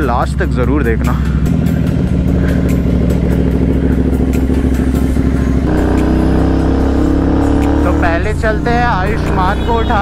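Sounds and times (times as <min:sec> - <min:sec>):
motorcycle engine revving: 0:01.2 - 0:10.0.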